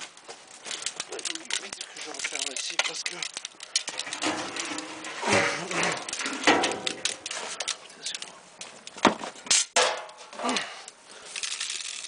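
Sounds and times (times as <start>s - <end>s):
sharp crack: 0.0s - 10.7s.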